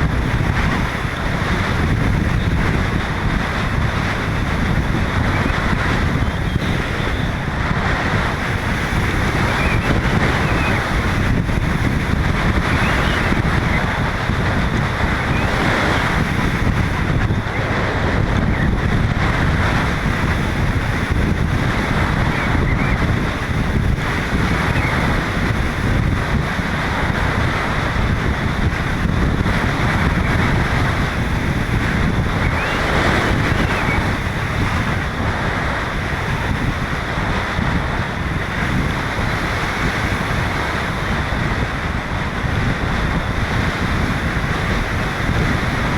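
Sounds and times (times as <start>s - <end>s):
strong wind on microphone: 0.0s - 45.9s.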